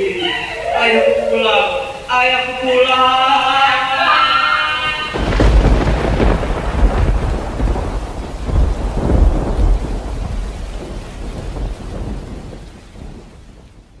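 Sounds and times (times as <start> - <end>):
thunder rolling: 0.0 - 2.9, 4.8 - 14.0
steady rain: 0.0 - 14.0.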